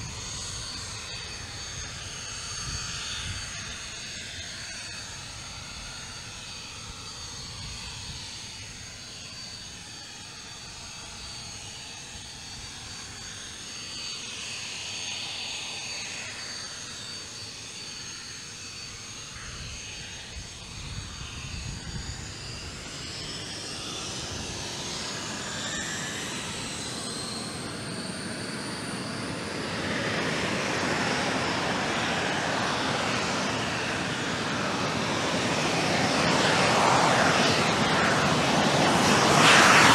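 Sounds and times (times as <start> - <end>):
jet engine whine spooling up: 0.0 - 39.9.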